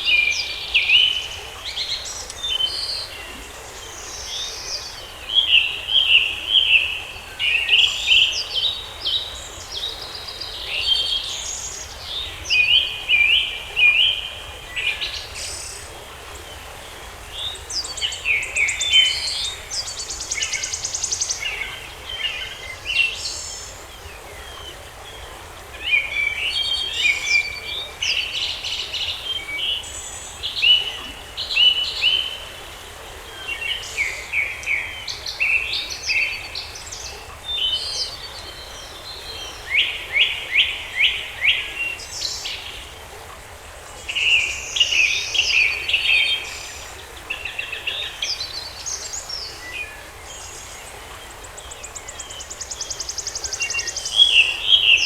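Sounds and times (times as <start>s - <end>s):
faint background hiss: 0.0s - 55.0s
songbirds chirping and trilling: 0.0s - 55.0s.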